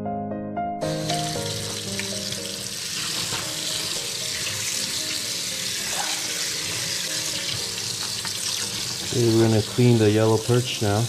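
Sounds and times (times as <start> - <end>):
faucet water running into sink: 0.9 - 11.0.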